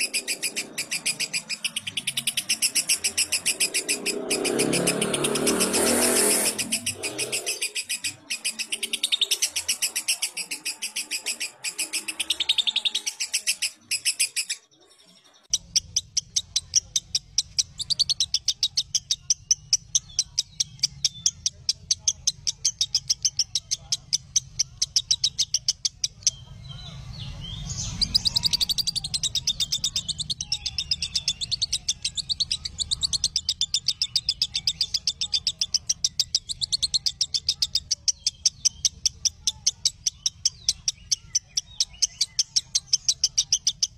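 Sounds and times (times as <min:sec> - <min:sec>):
lovebird chirping: 0:00.0 - 0:43.9.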